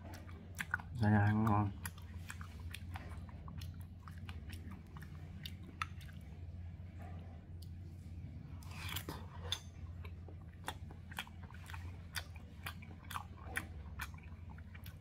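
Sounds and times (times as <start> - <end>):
person chewing: 0.0 - 15.0
steady low hum: 0.0 - 15.0.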